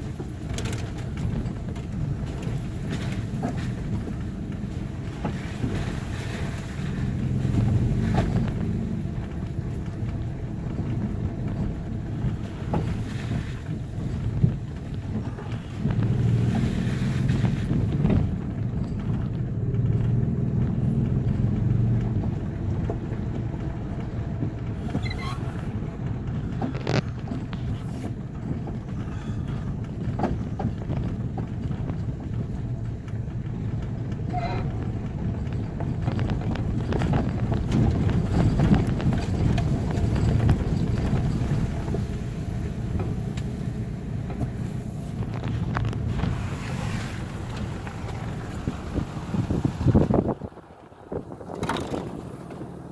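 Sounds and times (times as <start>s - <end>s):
engine and tyres rumbling: 0.0s - 52.9s
knocks and rattles over bumps: 0.0s - 52.9s.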